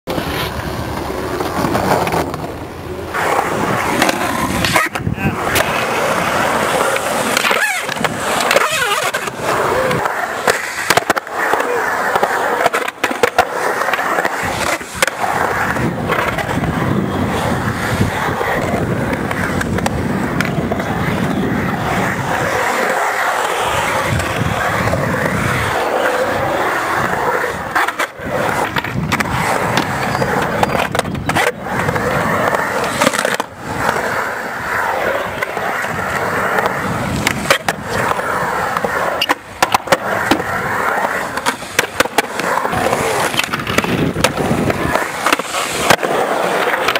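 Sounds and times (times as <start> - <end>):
skateboard wheels rolling on concrete: 0.0 - 46.9
skateboard clacks: 0.1 - 46.9.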